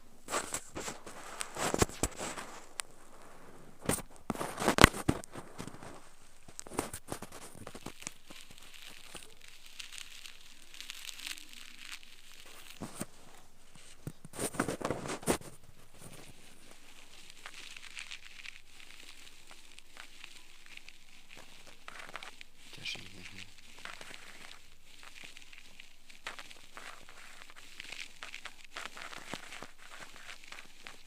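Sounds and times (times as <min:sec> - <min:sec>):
ear pick scraping earwax: 0:00.3 - 0:31.0.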